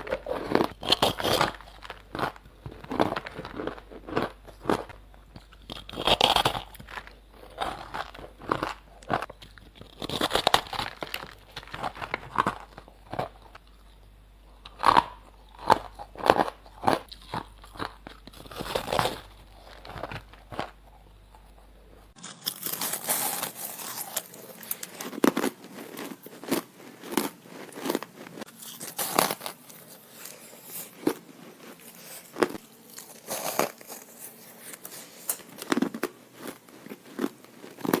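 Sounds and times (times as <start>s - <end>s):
chewing: 0.0s - 38.0s
ice crunching between teeth: 0.0s - 38.0s.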